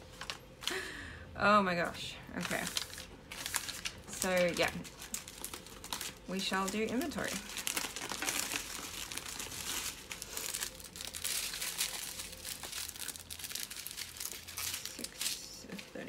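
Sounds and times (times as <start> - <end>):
plastic bags crinkling: 2.3 - 16.0.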